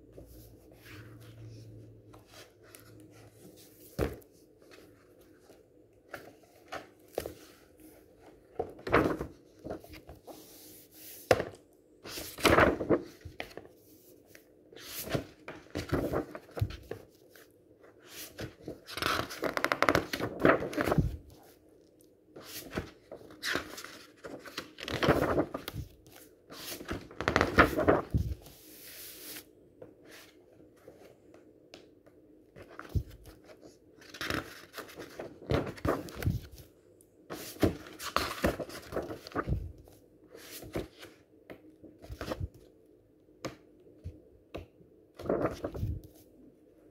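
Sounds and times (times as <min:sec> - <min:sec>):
book pages rustling: 0:00.1 - 0:21.6, 0:22.4 - 0:31.9, 0:32.6 - 0:36.7, 0:37.3 - 0:41.2, 0:41.9 - 0:42.7, 0:45.2 - 0:46.3.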